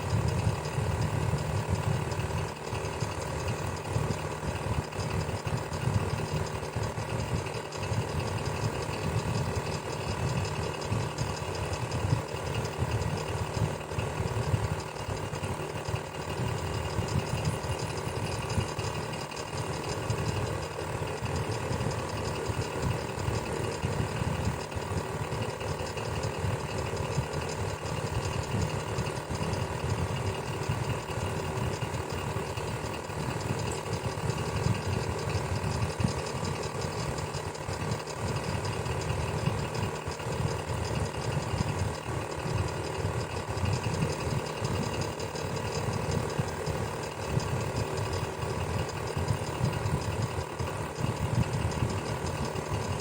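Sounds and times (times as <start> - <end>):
electric fan humming: 0.0 - 53.0.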